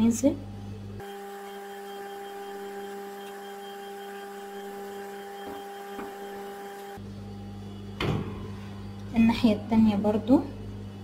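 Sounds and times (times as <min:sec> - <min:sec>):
electric hum: 0:00.0 - 0:11.0.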